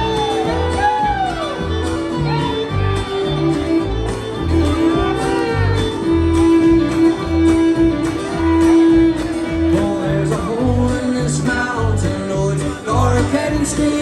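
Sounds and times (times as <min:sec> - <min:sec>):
acoustic guitar rhythm: 0:00.0 - 0:14.0
bass notes: 0:00.0 - 0:14.0
fiddle: 0:00.0 - 0:14.0.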